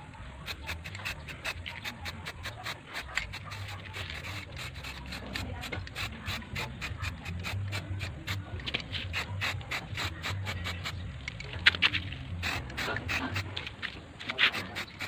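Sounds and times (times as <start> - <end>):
spray can hissing: 0.4 - 11.0, 11.7 - 15.0
fast regular ticking: 0.4 - 15.0.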